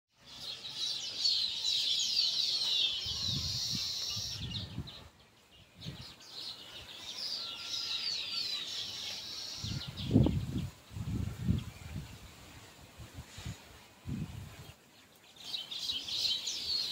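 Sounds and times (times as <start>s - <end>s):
small birds chirping: 0.1s - 16.9s.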